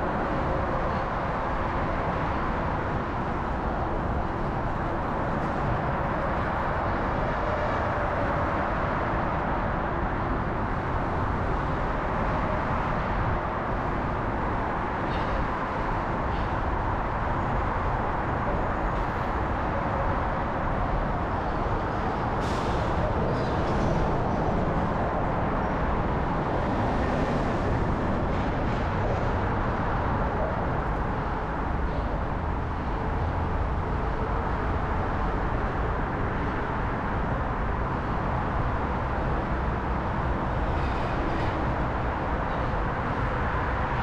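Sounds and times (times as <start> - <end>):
city traffic noise: 0.0 - 44.0.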